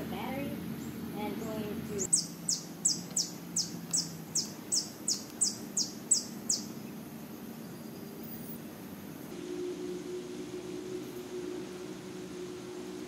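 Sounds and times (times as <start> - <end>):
bird calling high falling notes: 0.6 - 8.6, 9.3 - 13.0.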